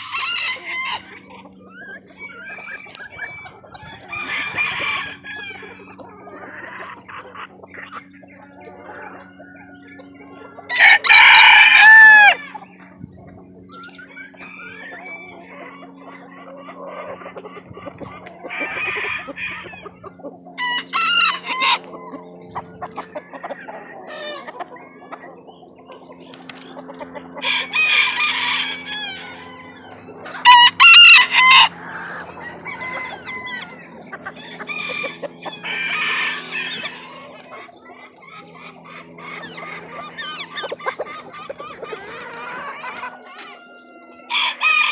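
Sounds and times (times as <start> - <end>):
low hum: 0.0 - 44.3
chickens clucking softly: 0.0 - 44.9
roosters crowing: 0.0 - 44.9.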